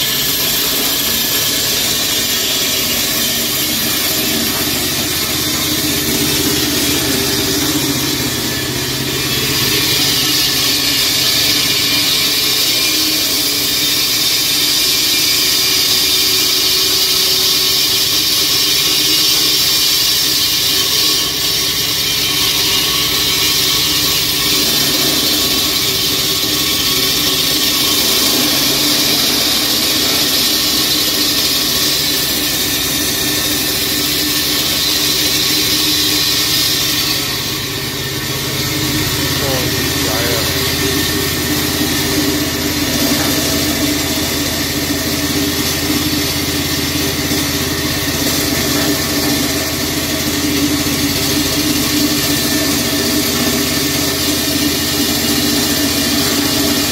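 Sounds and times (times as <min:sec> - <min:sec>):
concrete saw cutting: 0:00.0 - 0:56.9.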